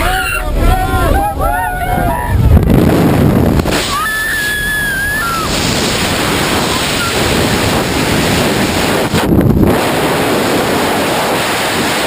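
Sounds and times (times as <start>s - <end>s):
wind roaring across microphone: 0.0s - 12.0s.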